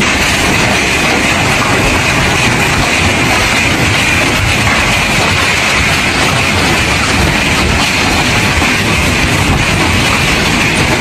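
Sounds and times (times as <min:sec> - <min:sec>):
gale-force wind: 0:00.0 - 0:11.0
heavy rain: 0:00.0 - 0:11.0.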